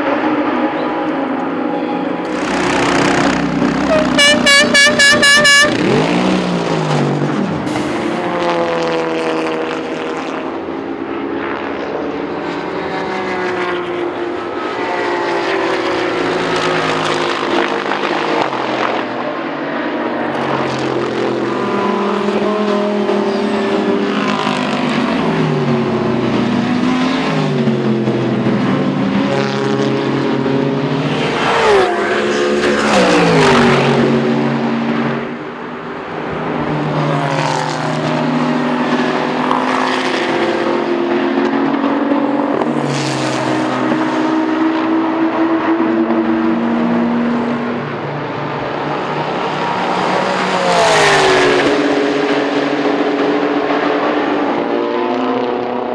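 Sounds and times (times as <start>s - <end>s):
race car engines passing: 0.0s - 55.9s.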